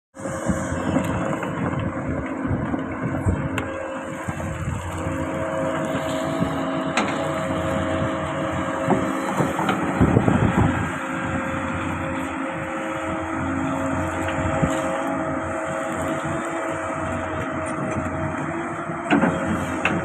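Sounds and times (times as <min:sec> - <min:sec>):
excavator engine running: 0:00.2 - 0:20.0.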